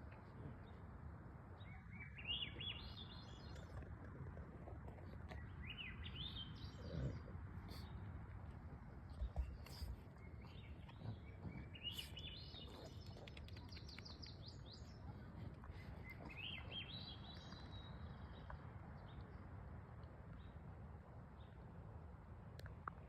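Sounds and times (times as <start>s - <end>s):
songbird singing: 0.0s - 20.7s.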